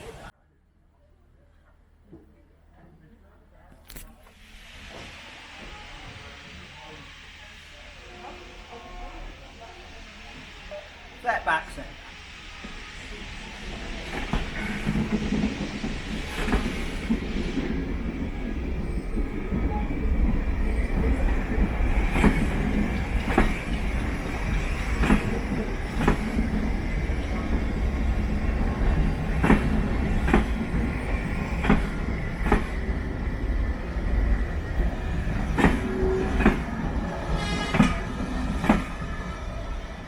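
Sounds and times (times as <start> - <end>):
train rumbling on rails: 4.3 - 40.0.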